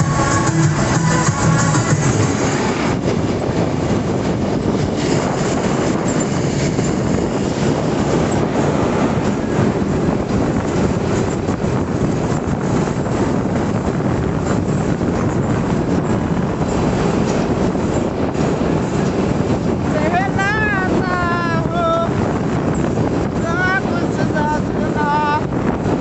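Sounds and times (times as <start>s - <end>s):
vehicle road noise: 0.0s - 26.0s
wind rushing: 0.0s - 26.0s.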